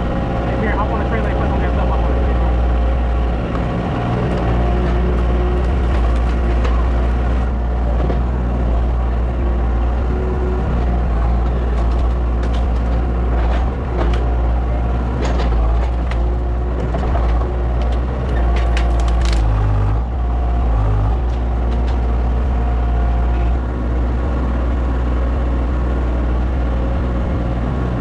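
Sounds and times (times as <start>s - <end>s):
large engine running: 0.0s - 28.0s.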